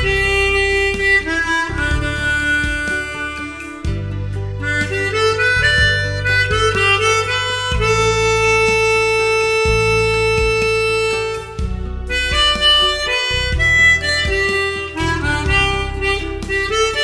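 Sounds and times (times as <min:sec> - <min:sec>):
harmonica melody: 0:00.0 - 0:17.0
low backing accompaniment: 0:00.0 - 0:17.0.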